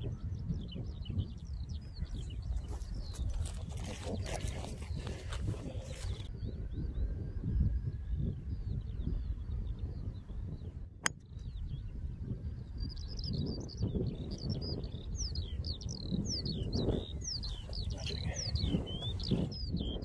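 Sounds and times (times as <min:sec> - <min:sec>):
bird chirping: 0:00.0 - 0:20.0
wind buffeting microphone: 0:00.0 - 0:20.0.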